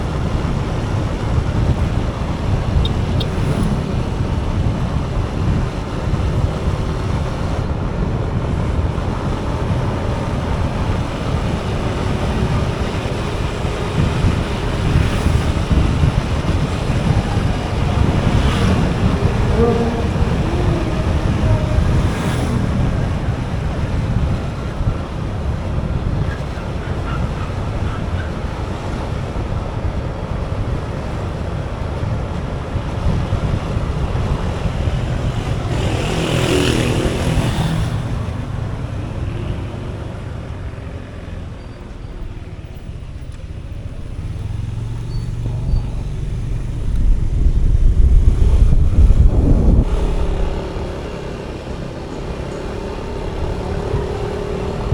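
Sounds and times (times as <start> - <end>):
motorcycle road rumble: 0.0 - 54.9
vehicle passing: 8.9 - 31.6, 32.6 - 54.9.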